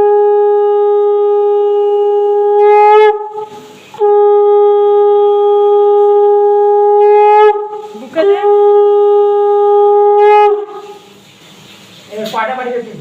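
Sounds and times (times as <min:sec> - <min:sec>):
conch shell blasts: 0:00.0 - 0:11.2.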